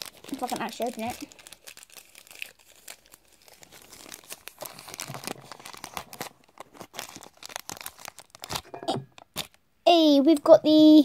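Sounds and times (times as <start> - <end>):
plastic bag crackling and ripping: 0.0 - 9.6.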